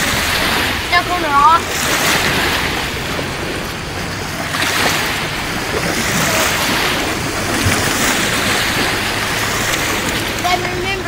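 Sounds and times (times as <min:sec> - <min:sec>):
small waves breaking: 0:00.0 - 0:11.0
wind on microphone: 0:00.0 - 0:11.0.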